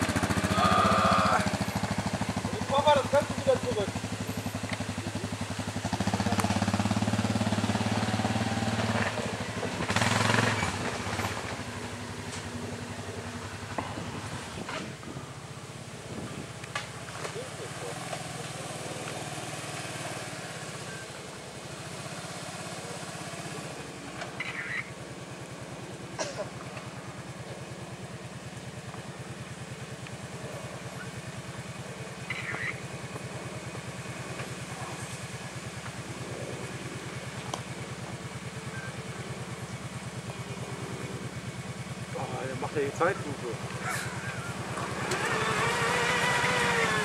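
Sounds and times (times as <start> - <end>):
quad engine running at low revs: 0.0 - 47.0.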